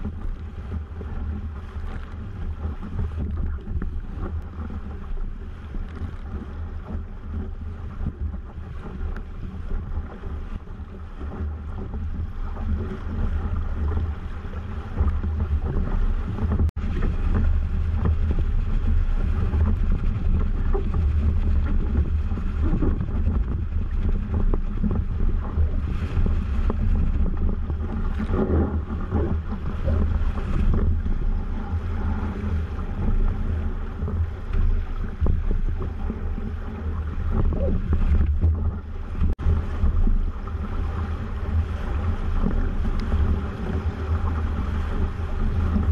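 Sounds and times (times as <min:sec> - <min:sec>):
water rushing along hulls: 0:00.0 - 0:45.9
wind buffeting microphone: 0:00.0 - 0:45.9.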